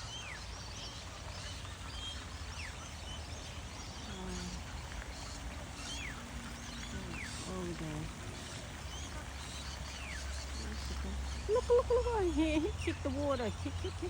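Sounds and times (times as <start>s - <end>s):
birds calling and chirping: 0.0s - 14.0s
low background rumble: 0.0s - 14.0s.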